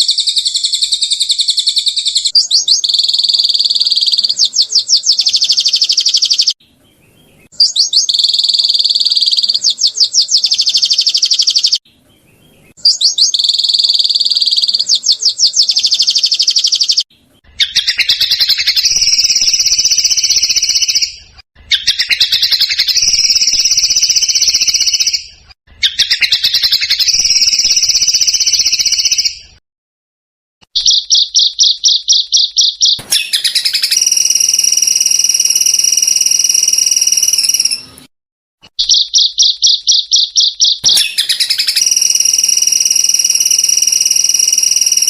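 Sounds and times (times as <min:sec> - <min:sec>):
buzzy trilled birdsong: 0:00.0 - 0:29.6, 0:30.6 - 0:45.0.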